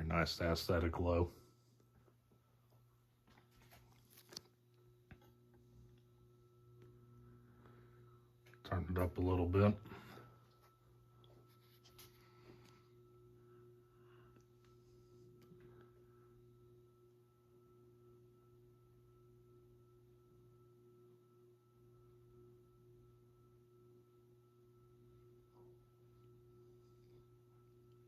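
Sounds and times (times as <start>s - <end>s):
ceiling fan running: 0.0s - 28.0s
faint electrical hum: 0.0s - 28.0s.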